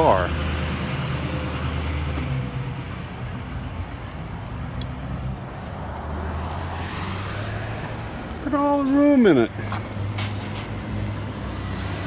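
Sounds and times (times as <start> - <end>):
low traffic hum: 0.0 - 12.0
passing vehicles rushing: 0.0 - 12.0.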